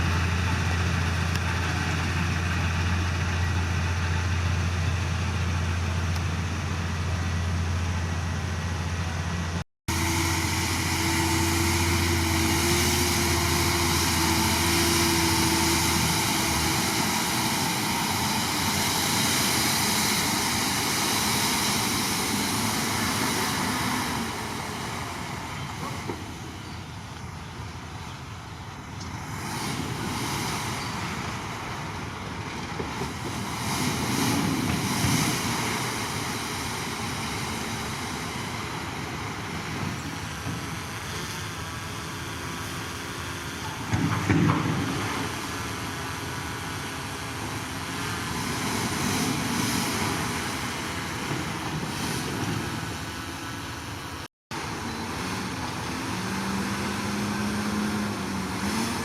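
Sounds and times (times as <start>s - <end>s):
diesel earthmoving machinery running: 0.0s - 59.0s
low engine tone: 0.0s - 59.0s.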